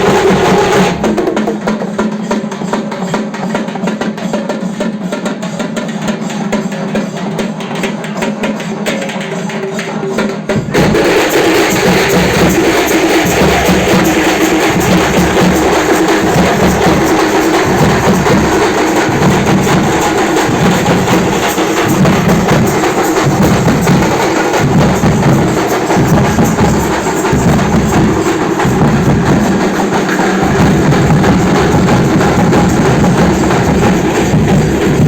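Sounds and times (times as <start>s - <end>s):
large barrel drums playing: 0.0s - 6.4s, 7.1s - 35.0s.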